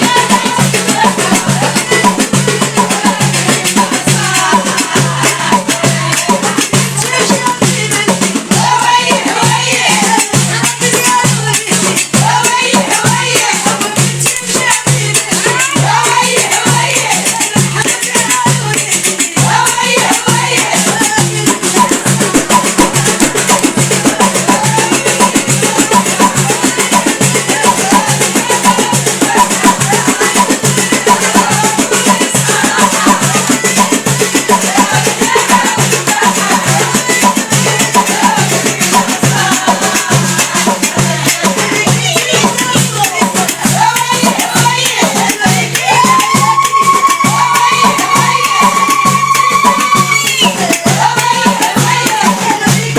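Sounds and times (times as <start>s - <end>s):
fast hand percussion: 0.0s - 52.9s
women singing folk song: 0.0s - 52.9s.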